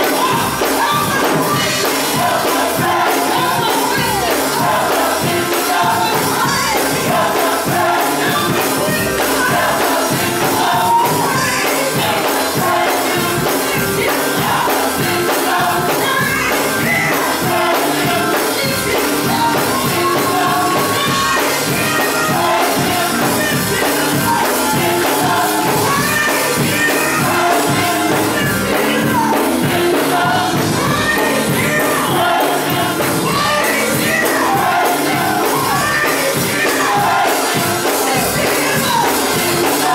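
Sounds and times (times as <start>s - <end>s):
drums beating: 0.0s - 39.9s
gospel choir singing: 0.0s - 39.9s
live band playing: 0.0s - 39.9s.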